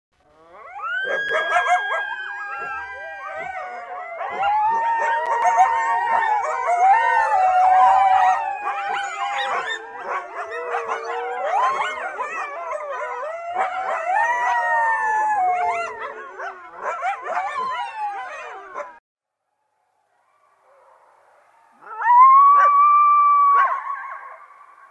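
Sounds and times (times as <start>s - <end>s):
coyotes howling and yipping: 0.2s - 19.0s, 21.7s - 24.9s.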